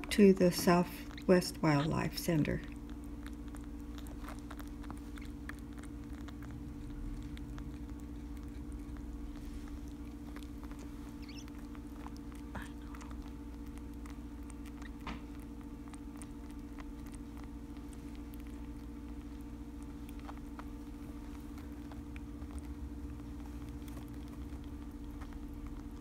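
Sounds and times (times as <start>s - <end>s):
steady low hum: 0.0s - 26.0s
wet suckling clicks and smacks: 0.0s - 26.0s.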